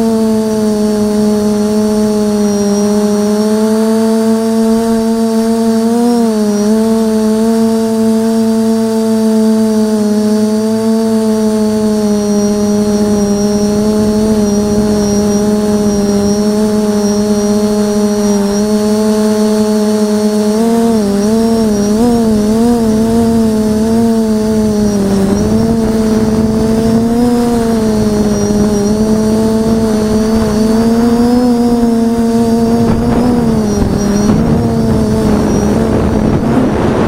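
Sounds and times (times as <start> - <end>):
quadcopter propellers humming: 0.0 - 37.0.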